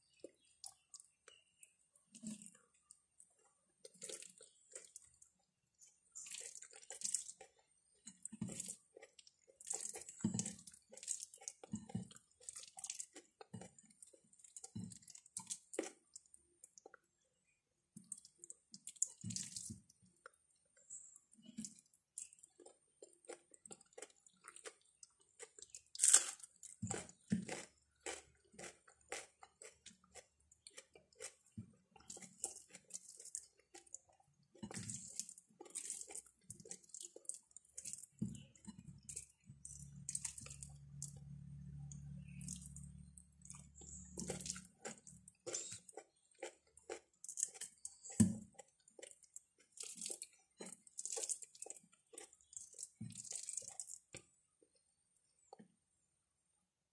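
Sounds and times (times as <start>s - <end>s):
chewing: 0.0s - 17.2s, 18.0s - 54.8s.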